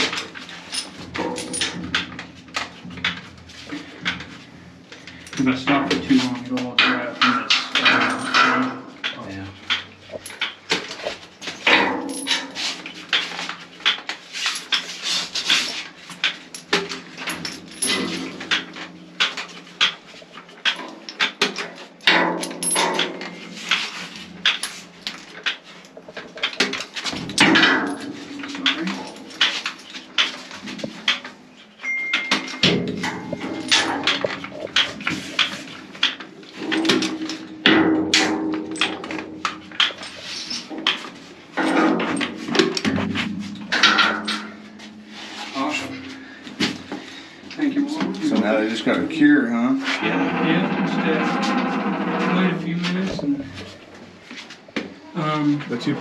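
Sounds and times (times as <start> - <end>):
knocks and clatter of installation work: 0.0 - 56.0.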